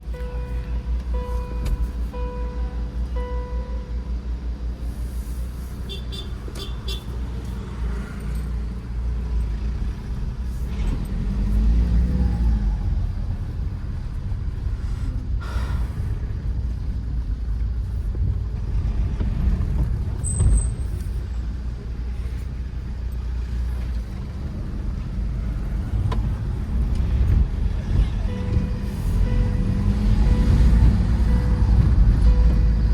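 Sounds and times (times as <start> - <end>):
diesel engine and road noise: 0.0 - 32.9.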